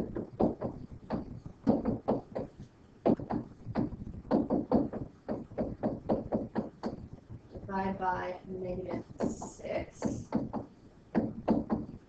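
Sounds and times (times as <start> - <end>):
pen tapping and scratching on surface: 0.0 - 7.0, 9.2 - 12.0.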